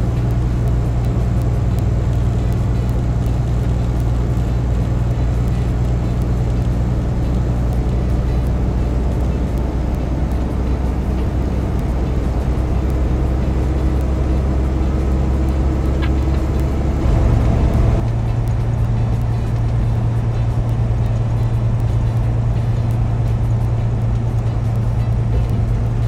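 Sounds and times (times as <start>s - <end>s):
diesel truck engine droning: 0.0s - 26.0s
tyre and road noise: 0.0s - 26.0s.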